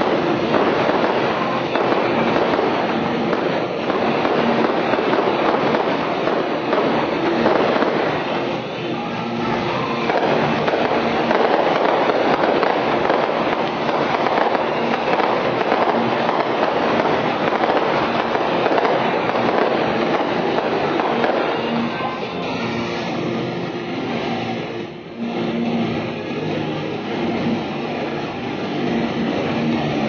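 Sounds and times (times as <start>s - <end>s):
fireworks barrage: 0.0s - 30.0s.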